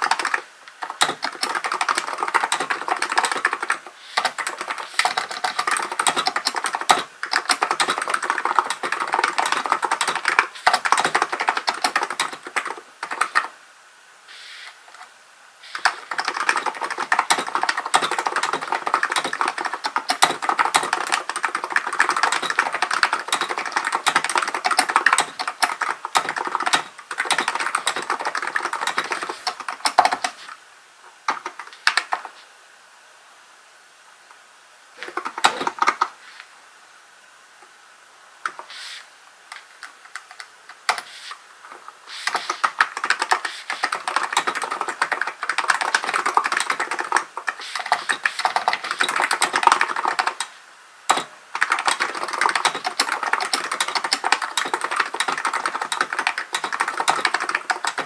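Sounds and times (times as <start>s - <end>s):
fast typing on keyboard: 0.0s - 13.6s, 15.8s - 30.5s, 31.3s - 32.4s, 35.0s - 36.1s, 40.1s - 41.1s, 42.2s - 50.5s, 51.1s - 58.0s.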